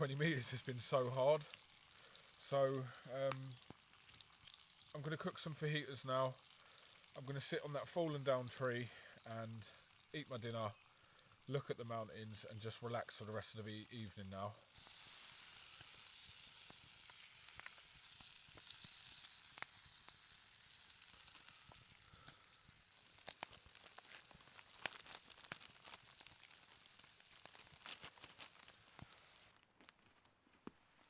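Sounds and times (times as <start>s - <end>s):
food sizzling in a pan: 0.0s - 29.5s.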